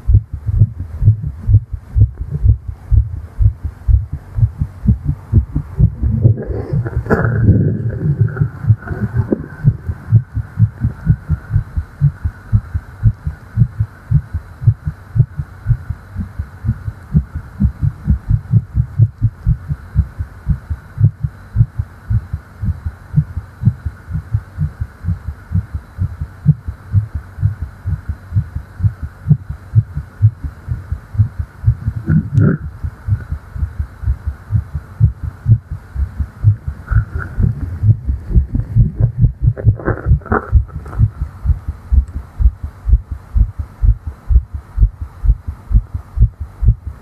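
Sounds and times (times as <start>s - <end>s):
fast heartbeat thumps: 0.0s - 47.0s.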